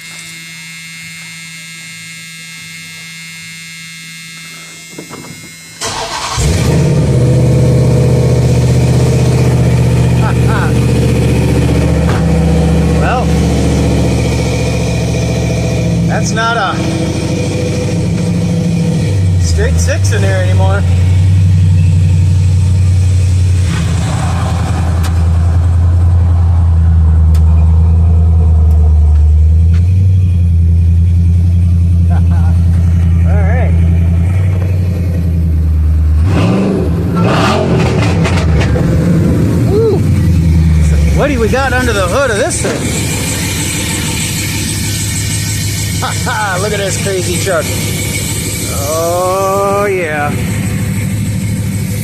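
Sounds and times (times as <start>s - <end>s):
high electrical whine: 0.0s - 52.0s
engine cranking and idling: 5.8s - 52.0s.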